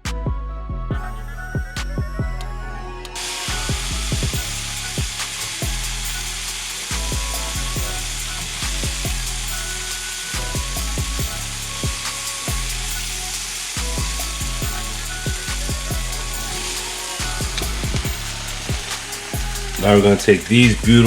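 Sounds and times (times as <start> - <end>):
beat music with bass and drums: 0.0 - 21.0.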